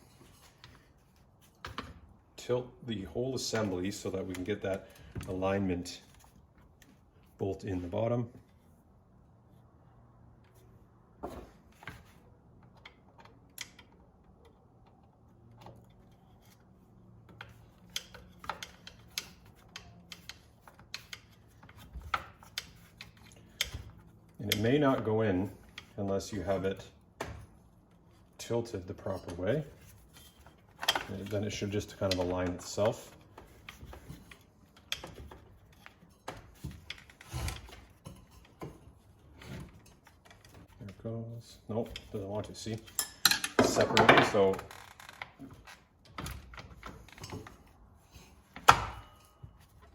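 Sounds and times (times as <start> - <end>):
light clicks and knocks of handled parts: 0.0 - 8.9, 10.2 - 49.9.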